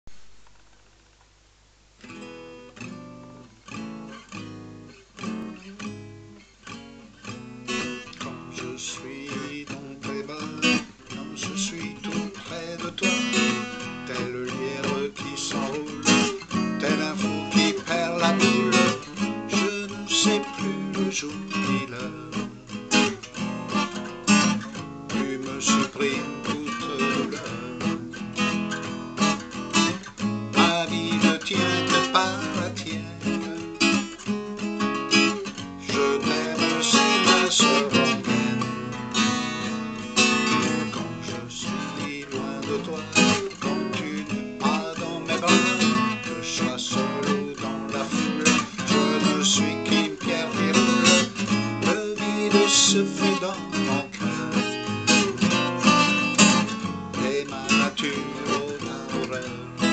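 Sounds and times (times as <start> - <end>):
acoustic guitar picked and strummed: 0.0 - 59.9.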